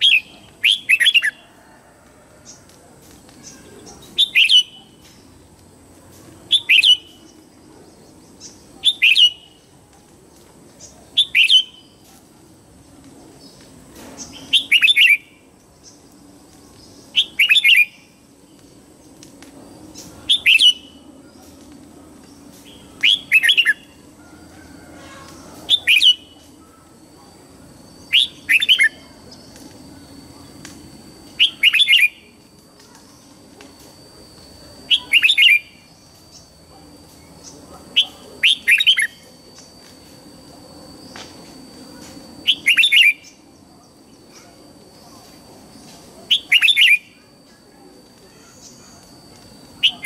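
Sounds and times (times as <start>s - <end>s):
faint steady high tone: 0.0s - 50.0s.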